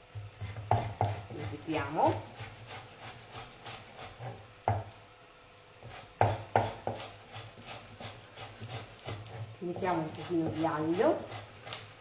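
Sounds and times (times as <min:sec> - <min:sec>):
knife chopping on wooden board: 0:00.2 - 0:05.0, 0:05.8 - 0:11.9.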